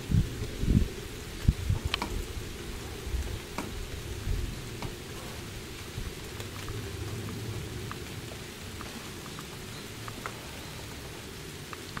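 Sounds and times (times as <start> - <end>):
light rain on foliage: 0.0 - 12.0
wind rumble on microphone: 0.0 - 12.0
drops ticking: 0.4 - 12.0.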